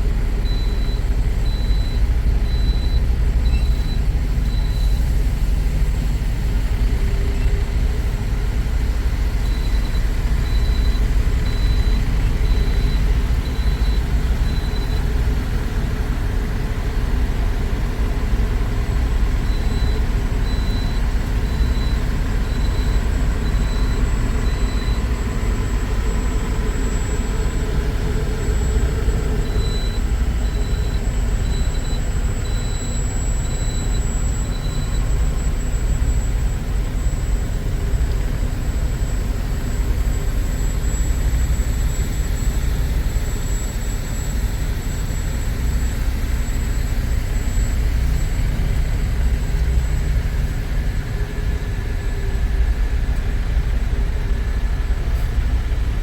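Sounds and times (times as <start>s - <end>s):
truck engine and road rumble: 0.0s - 56.0s
turn signal beeping: 0.3s - 5.2s, 6.4s - 53.6s.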